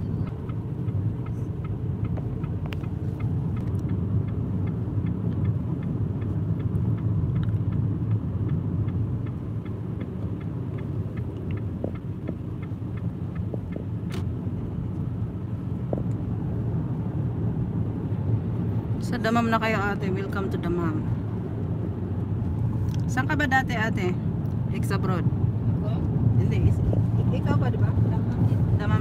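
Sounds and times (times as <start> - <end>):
car driving interior rumble: 0.0 - 29.0.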